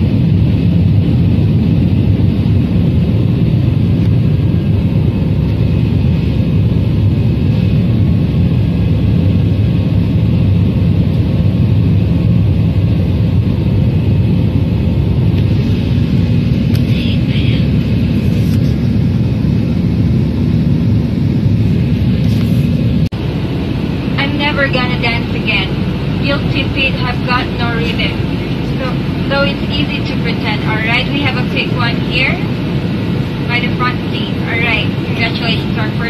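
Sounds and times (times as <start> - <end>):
jet engines and airflow rumble: 0.0 - 36.0.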